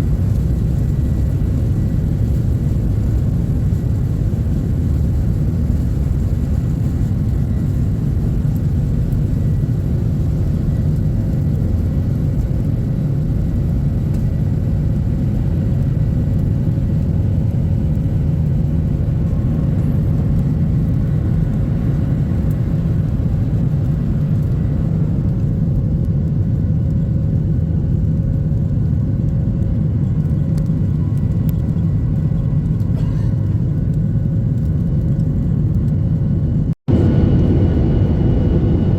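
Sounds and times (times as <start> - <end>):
vehicle interior rumble: 0.0 - 38.9.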